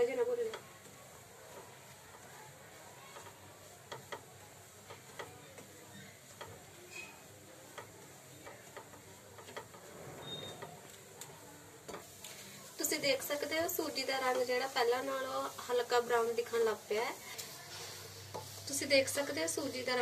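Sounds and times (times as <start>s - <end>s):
spatula scraping pan: 0.0s - 11.2s, 11.8s - 20.0s
spatula tapping pan: 0.0s - 20.0s.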